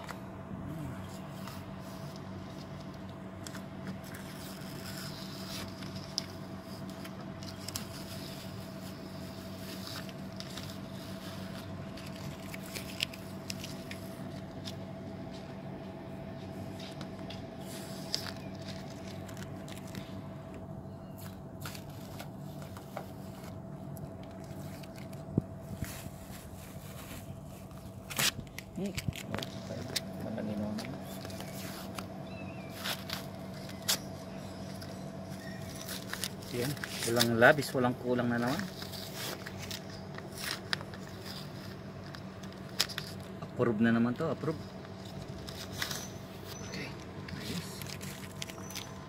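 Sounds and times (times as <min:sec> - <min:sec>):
steady low hum: 0:00.0 - 0:49.0
tape peeling and crinkling: 0:01.0 - 0:15.7, 0:16.3 - 0:43.4, 0:44.1 - 0:49.0.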